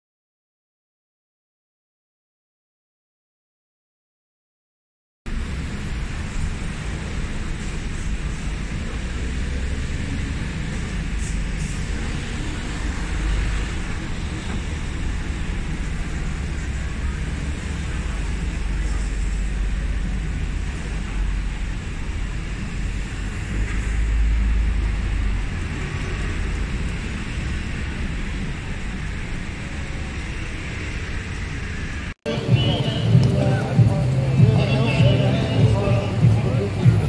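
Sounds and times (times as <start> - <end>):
road traffic rumble: 5.3 - 37.0.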